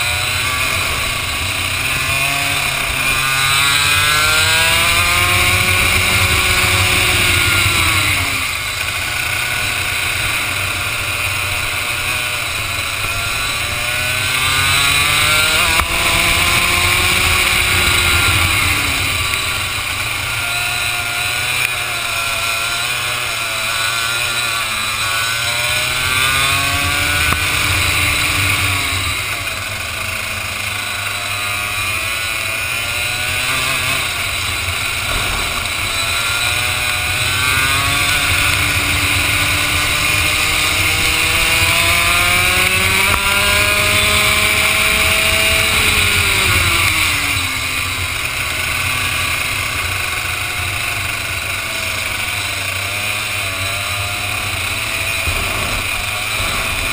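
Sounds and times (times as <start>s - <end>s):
kart engine accelerating: 0.0s - 56.9s.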